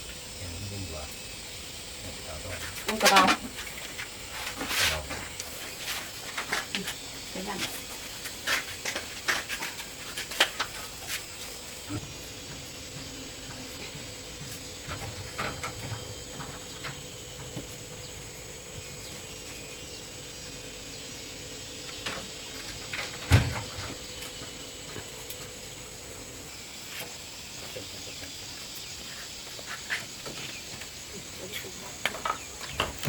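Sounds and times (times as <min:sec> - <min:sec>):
outdoor hiss: 0:00.0 - 0:33.0.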